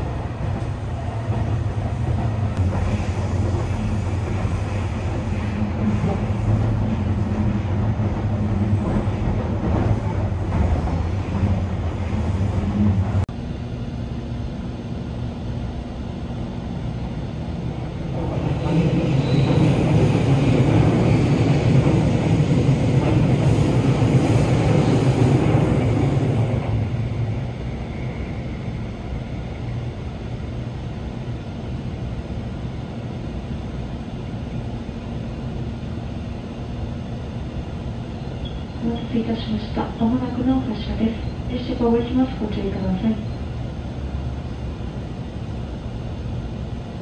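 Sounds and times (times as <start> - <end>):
passing train rail noise: 0.0 - 47.0.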